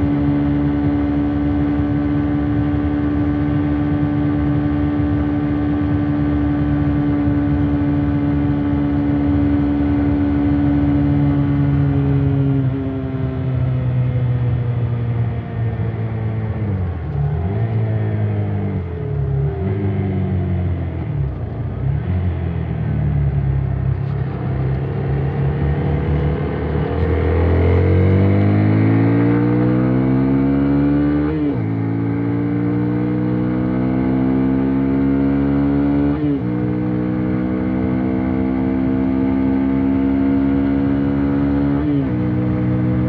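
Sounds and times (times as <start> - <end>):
motorcycle engine revving and shifting: 0.0 - 43.0.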